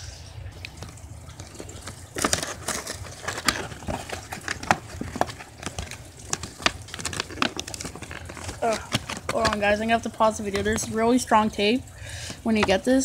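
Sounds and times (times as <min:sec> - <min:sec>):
plastic and cardboard crinkling: 0:00.5 - 0:13.0.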